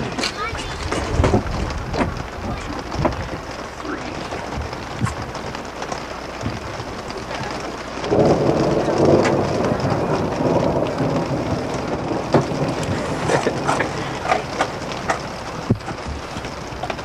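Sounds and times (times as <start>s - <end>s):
heavy rain drumming on roof: 0.0s - 17.0s
raindrop taps: 0.0s - 17.0s.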